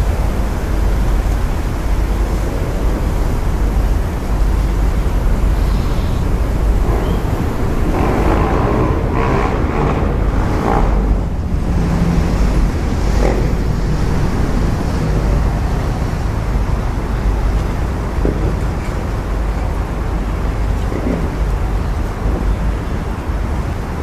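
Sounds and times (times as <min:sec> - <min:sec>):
harbour traffic noise: 0:00.0 - 0:24.0
ship engines running: 0:00.0 - 0:24.0.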